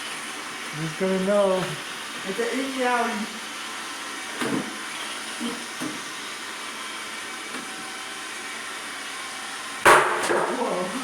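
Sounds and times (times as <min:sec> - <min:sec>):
robot vacuum whirring: 0:00.0 - 0:09.8.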